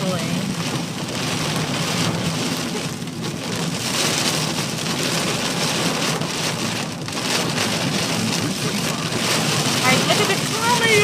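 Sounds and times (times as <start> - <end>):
engine and road rumble: 0.0 - 11.0
heavy rain on vehicle roof: 0.0 - 11.0.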